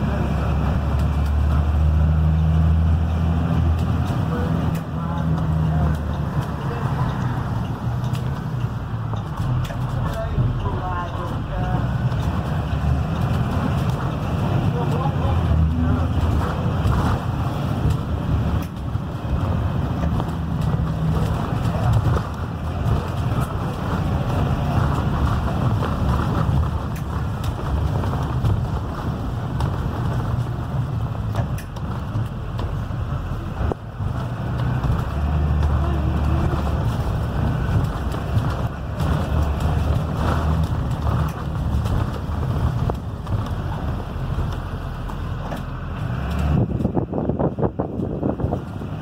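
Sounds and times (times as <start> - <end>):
bus diesel engine rumble: 0.0 - 49.0
road noise: 0.0 - 49.0
light clicks and rattles: 3.5 - 47.1.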